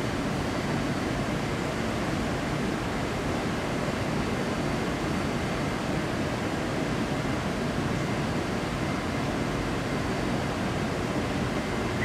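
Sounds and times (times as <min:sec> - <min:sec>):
train running noise inside car: 0:00.0 - 0:12.0.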